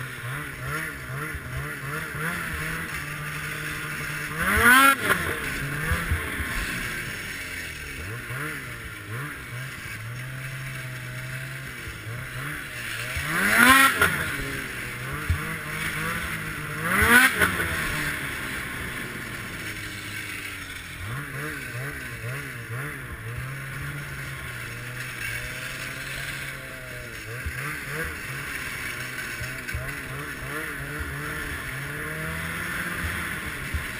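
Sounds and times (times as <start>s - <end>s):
snowmobile engine revving: 0.0s - 33.9s.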